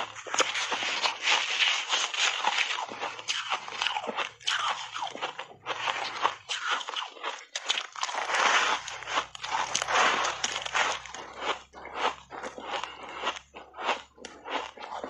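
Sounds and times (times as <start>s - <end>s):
ice crunching and cracking: 0.0s - 15.0s.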